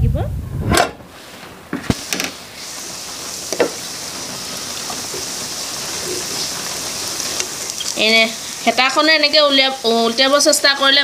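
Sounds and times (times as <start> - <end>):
oil sizzling in a pan: 1.1 - 11.0.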